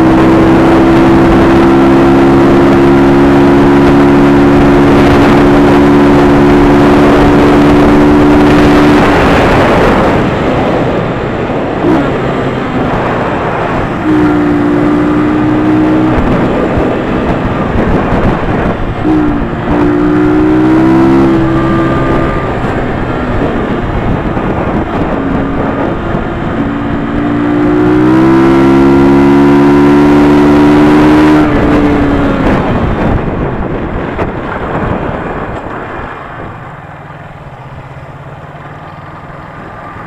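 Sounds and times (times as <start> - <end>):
motorcycle engine cruising: 0.0 - 40.0
wind and road noise: 0.0 - 40.0.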